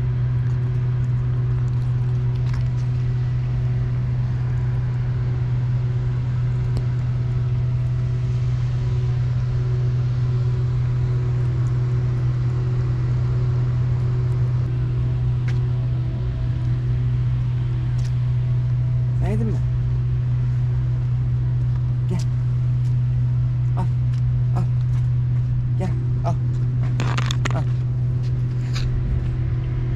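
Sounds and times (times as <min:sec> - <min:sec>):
loud low hum: 0:00.0 - 0:29.9.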